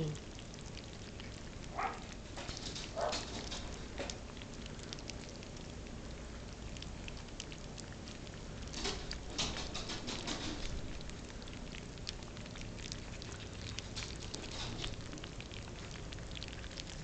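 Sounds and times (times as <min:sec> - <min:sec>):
puppies lapping food: 0:00.0 - 0:17.0.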